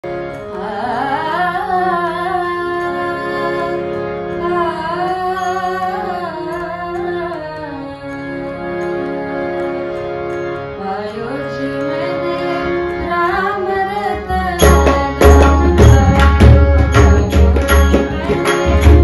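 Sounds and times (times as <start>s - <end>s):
harmonium chords: 0.0s - 19.0s
woman singing devotional song: 0.2s - 19.0s.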